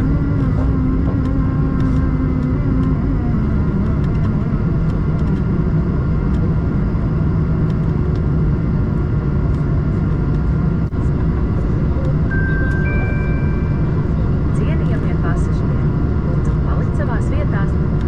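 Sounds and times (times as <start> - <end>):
airliner cabin engine rumble: 0.0 - 18.0
low hum: 0.0 - 18.0.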